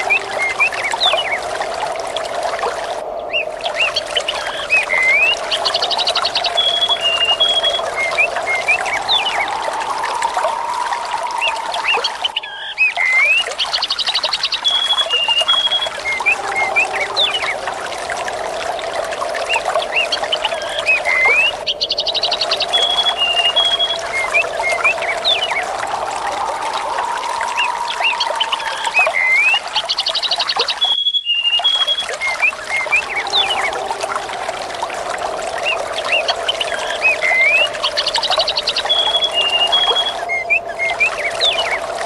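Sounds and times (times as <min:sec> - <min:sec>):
trickling water: 0:00.0 - 0:42.0
birds chirping and whistling: 0:03.1 - 0:17.6, 0:19.5 - 0:33.9, 0:35.5 - 0:42.0.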